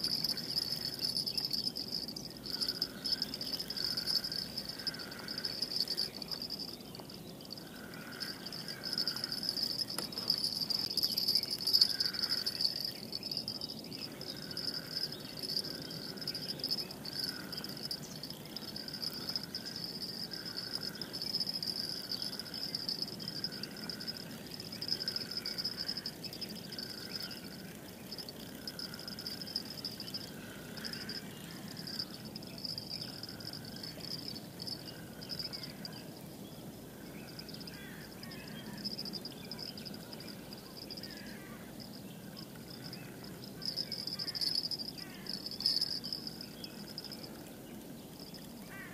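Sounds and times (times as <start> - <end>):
high-pitched insect trilling: 0.0 - 48.9
short repeating insect call: 0.0 - 48.9.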